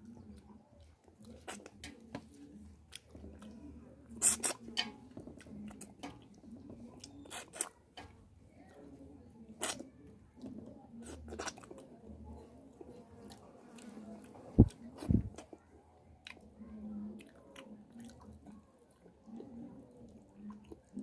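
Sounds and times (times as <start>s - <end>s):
wet chewing: 0.0s - 8.9s, 9.5s - 16.5s, 17.2s - 21.0s.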